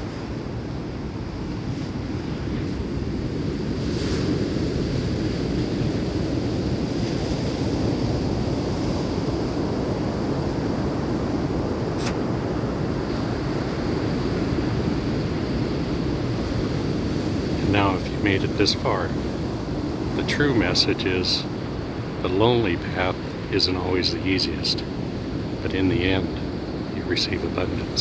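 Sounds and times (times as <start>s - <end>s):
wind buffeting microphone: 0.0s - 23.6s
ocean surf: 0.0s - 28.0s.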